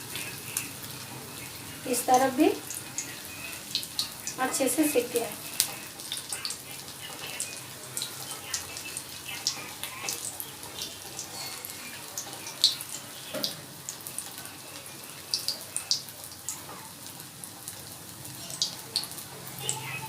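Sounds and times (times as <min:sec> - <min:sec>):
food deep-frying in hot oil: 0:00.0 - 0:20.0
oil crackles and pops: 0:00.0 - 0:20.0.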